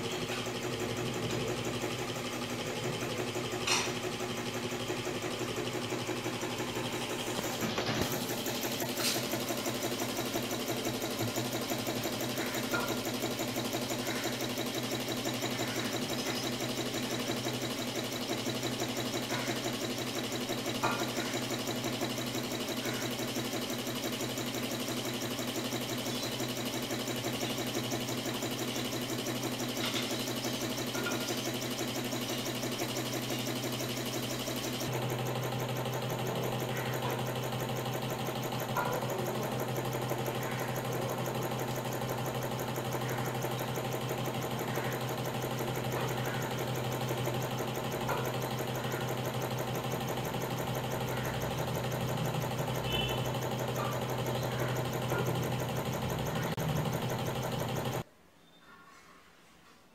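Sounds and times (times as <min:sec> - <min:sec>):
electric motor hum: 0:00.0 - 0:58.0
sewing machine clatter: 0:00.0 - 0:58.0.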